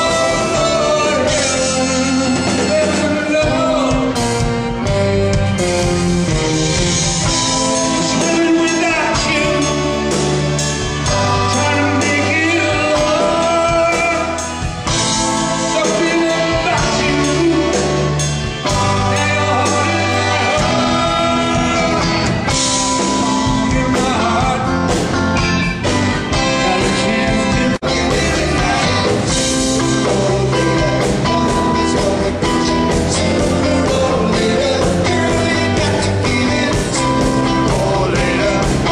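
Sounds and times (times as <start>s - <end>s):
person singing: 0.0s - 4.9s, 7.3s - 25.5s, 26.3s - 38.9s
drums: 0.0s - 38.9s
electric guitar: 0.0s - 38.9s.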